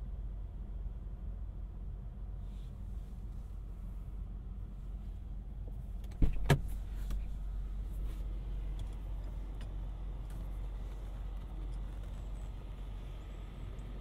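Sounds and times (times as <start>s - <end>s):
low hum in car cabin: 0.0s - 14.0s.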